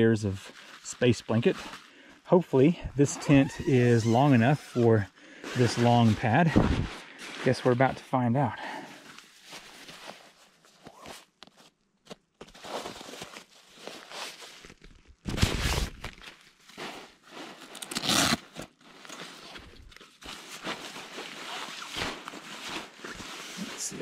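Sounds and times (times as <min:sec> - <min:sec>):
nylon fabric rustling and crinkling: 0:00.3 - 0:08.2, 0:08.8 - 0:11.8, 0:12.4 - 0:24.0.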